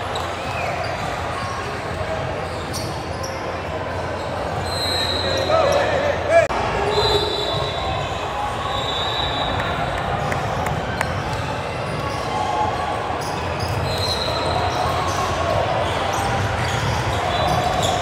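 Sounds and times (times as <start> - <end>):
spectators' voices: 0.0 - 18.0.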